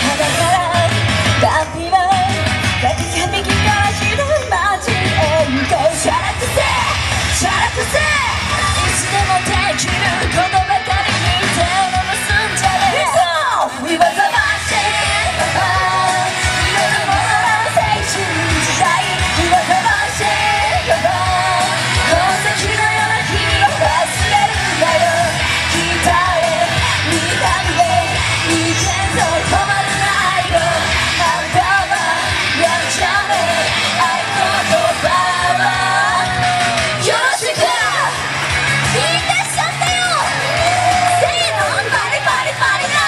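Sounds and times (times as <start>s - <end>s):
pop-rock backing music: 0.0s - 43.0s
women singing into microphones: 0.0s - 43.0s.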